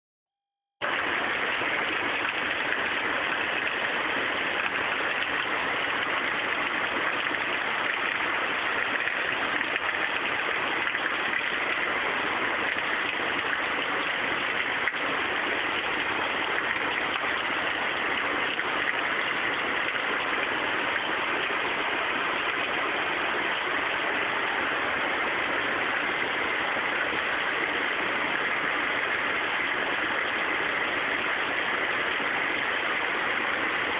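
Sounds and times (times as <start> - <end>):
heavy rain pouring: 0.8 - 33.9.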